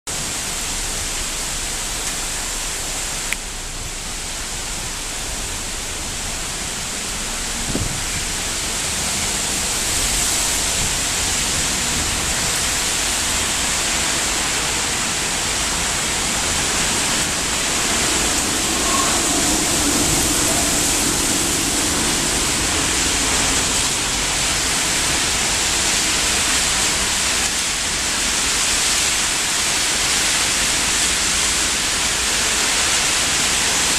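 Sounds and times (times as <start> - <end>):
heavy rain: 0.1 - 33.9
strong wind: 0.1 - 33.9.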